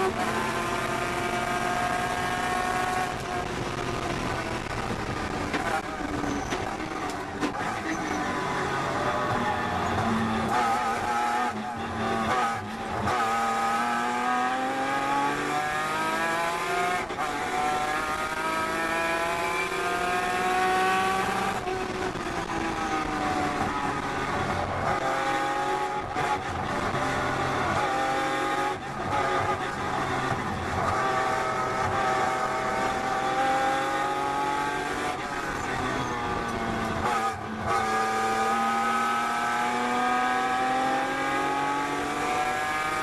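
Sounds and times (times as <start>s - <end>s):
race car engine at full throttle: 0.0s - 43.0s.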